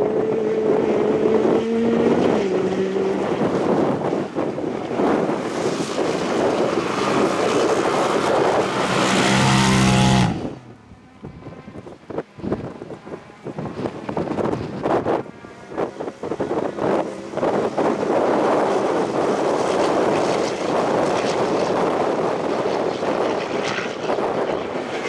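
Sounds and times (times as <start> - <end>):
gravel and tyre noise: 0.0 - 25.0
rally car engine at high revs: 0.0 - 25.0
wind noise on microphone: 0.0 - 25.0.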